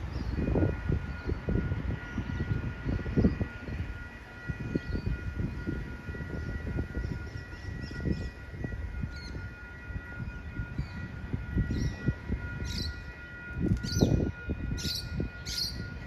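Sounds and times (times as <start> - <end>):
distant tram approaching: 0.0 - 16.0
high-pitched multi-tone whine: 0.0 - 16.0
wind buffeting microphone: 0.0 - 16.0.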